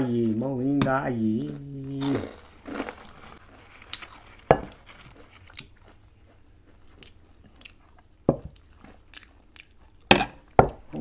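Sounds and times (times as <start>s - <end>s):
chewing and crunching food: 1.0s - 10.1s.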